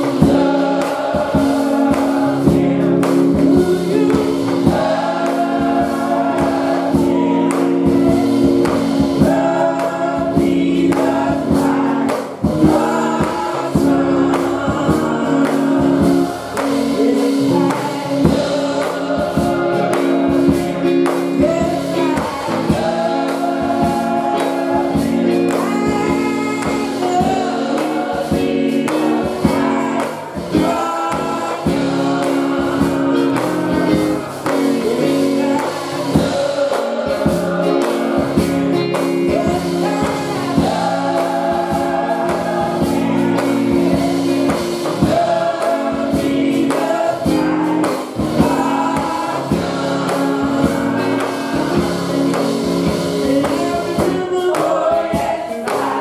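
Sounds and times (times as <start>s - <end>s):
choir singing in harmony: 0.0s - 56.0s
lead singer on microphone: 0.0s - 56.0s.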